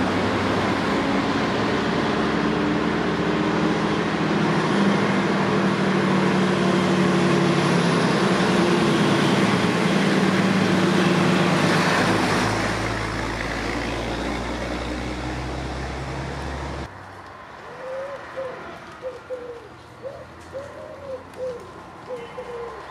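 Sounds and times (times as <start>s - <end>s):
diesel truck driving past: 0.0s - 20.5s.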